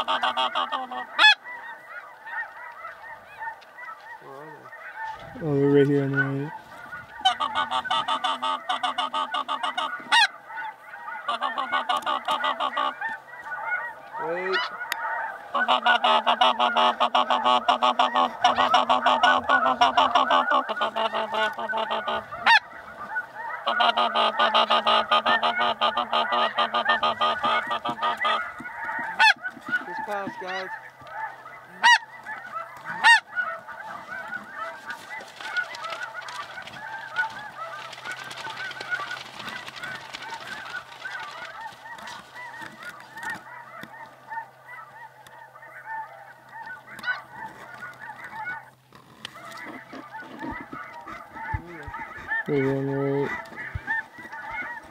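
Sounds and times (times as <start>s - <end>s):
geese honking chorus: 0.0s - 54.9s.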